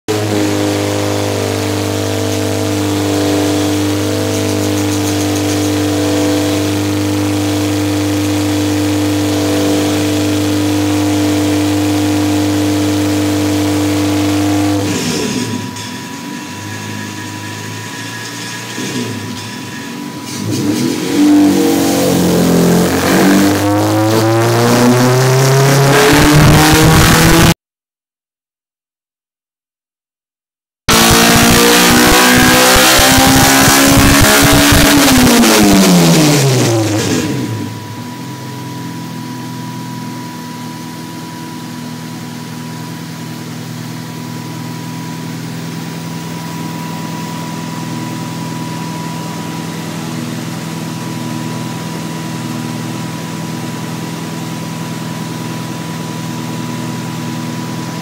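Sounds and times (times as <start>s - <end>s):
car engine revving on a dyno: 0.1s - 27.6s, 30.9s - 58.0s.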